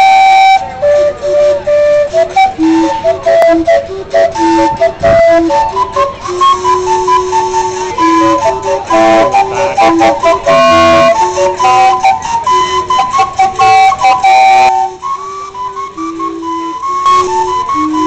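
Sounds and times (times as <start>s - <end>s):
steam calliope playing a tune: 0.0s - 18.0s.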